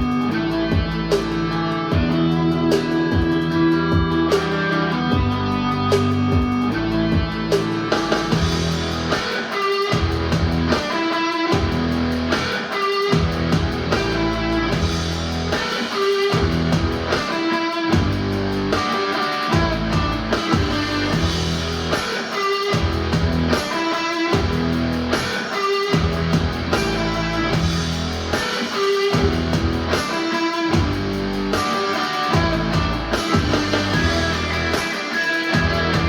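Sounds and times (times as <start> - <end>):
music with electric guitar and bass: 0.0 - 36.0.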